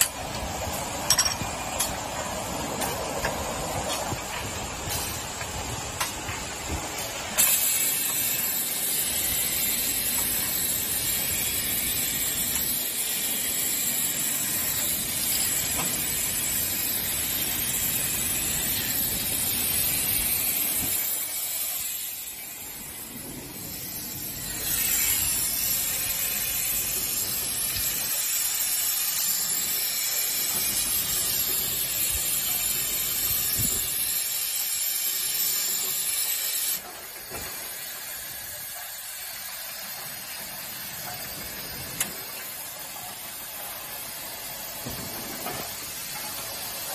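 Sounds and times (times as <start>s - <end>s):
filling machine hissing: 0.0s - 46.9s.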